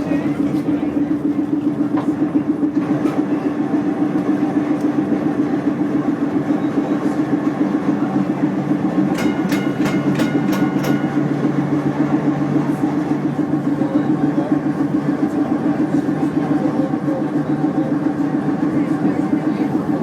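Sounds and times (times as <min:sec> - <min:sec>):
streetcar running on rails: 0:00.0 - 0:20.0.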